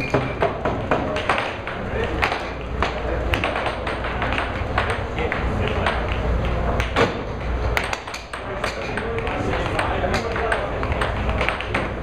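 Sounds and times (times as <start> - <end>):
air hockey pucks clacking: 0.0 - 12.0.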